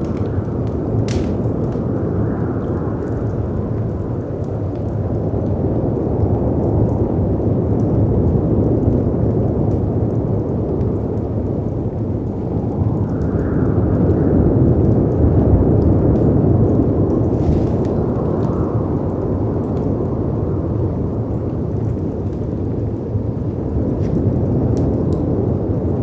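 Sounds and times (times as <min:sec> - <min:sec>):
stormy wind: 0:00.0 - 0:26.0
wood fire crackling: 0:00.0 - 0:26.0.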